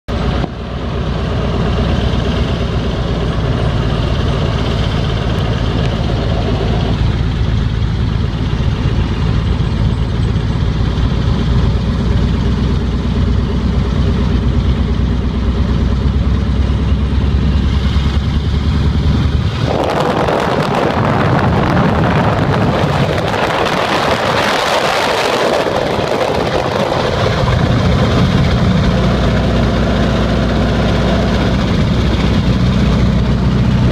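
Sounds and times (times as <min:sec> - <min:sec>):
plane rushing on take-off: 0:00.1 - 0:33.9
propeller plane engine: 0:00.1 - 0:33.9.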